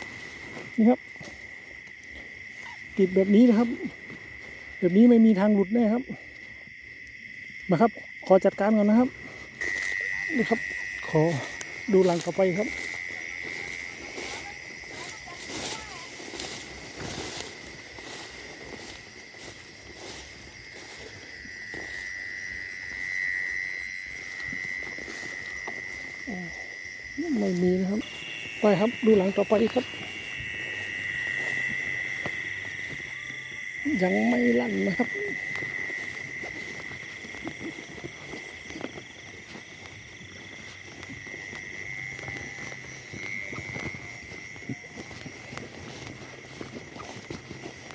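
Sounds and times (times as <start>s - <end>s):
footsteps rustling through field: 0.0s - 47.9s
high-pitched insect drone: 0.0s - 47.9s.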